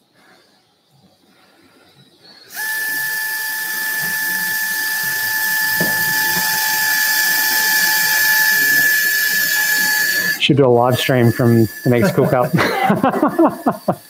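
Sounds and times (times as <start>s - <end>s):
surgical power driver whining: 2.2s - 14.0s.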